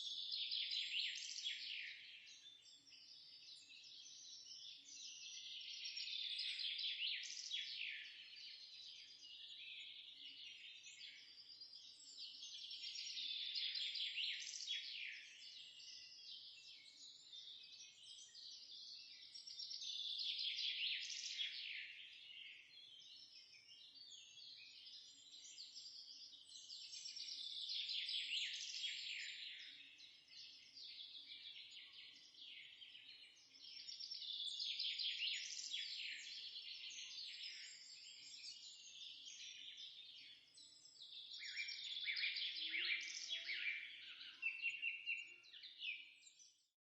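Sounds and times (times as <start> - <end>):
small birds chirping: 0.0 - 46.8.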